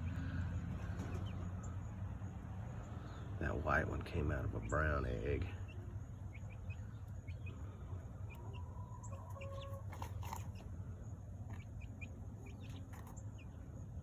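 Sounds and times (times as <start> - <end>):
chickens clucking: 0.0 - 1.9, 2.9 - 14.0
chicks peeping: 0.0 - 14.0.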